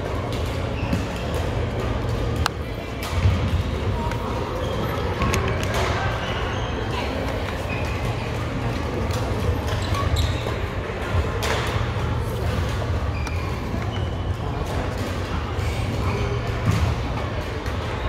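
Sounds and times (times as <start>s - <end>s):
low hum of hall: 0.0s - 18.0s.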